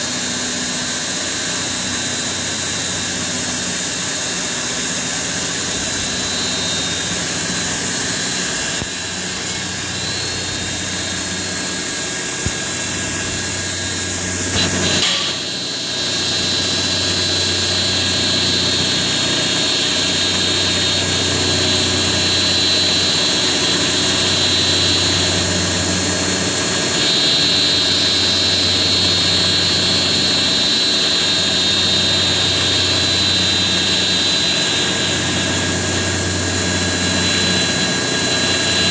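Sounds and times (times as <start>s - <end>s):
bead mill motor whine: 0.0s - 38.9s.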